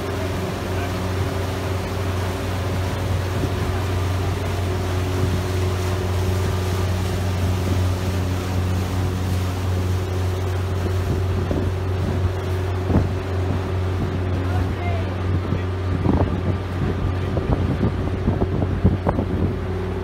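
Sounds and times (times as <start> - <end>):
boat engine droning: 0.0 - 20.0
water rushing past hull: 0.0 - 20.0.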